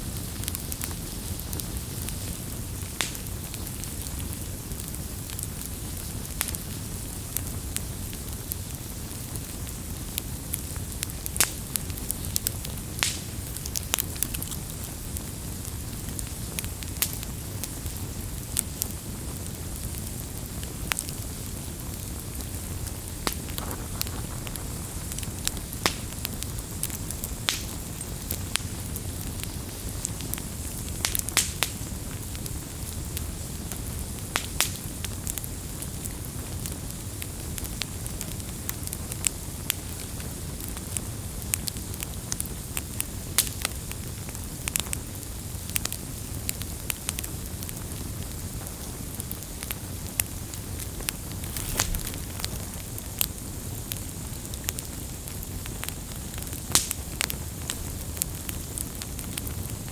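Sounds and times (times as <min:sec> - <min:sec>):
bonfire rumbling and crackling: 0:00.0 - 0:59.9.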